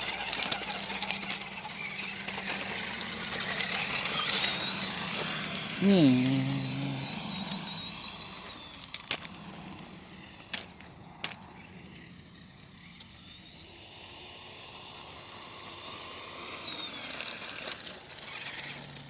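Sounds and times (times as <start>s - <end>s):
toy car electric motor whining: 0.0s - 19.0s.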